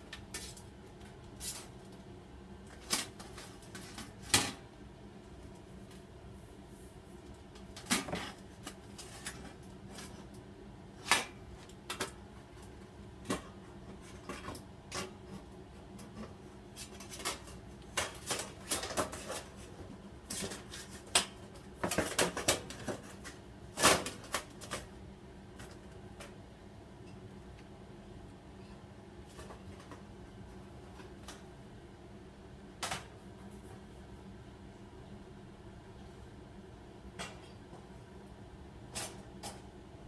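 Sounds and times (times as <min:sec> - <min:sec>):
faint hum: 0:00.0 - 0:40.0.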